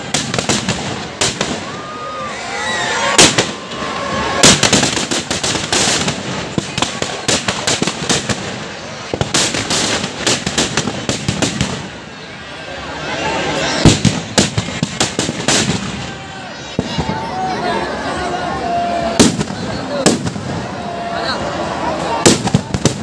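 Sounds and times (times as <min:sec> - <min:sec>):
firecrackers banging and crackling: 0:00.0 - 0:17.4, 0:19.0 - 0:23.0.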